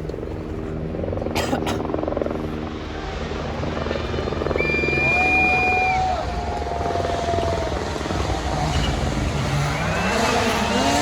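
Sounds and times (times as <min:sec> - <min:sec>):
engine noise: 0:00.0 - 0:11.0.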